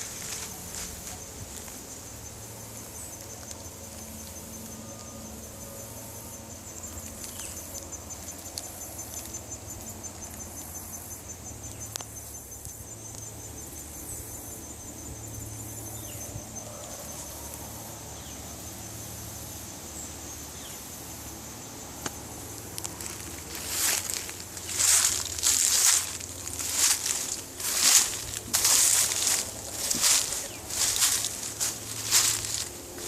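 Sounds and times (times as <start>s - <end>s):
cricket trilling: 0.0s - 33.0s.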